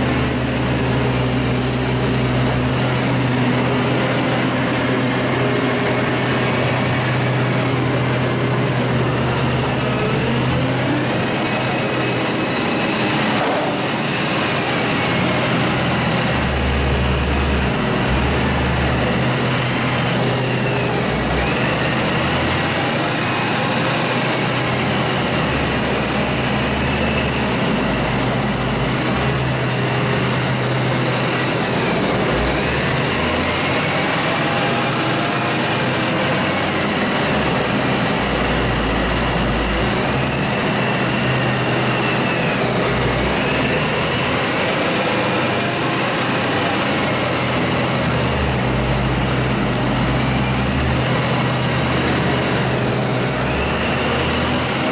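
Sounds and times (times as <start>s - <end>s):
heavy machinery engine running: 0.0s - 54.9s.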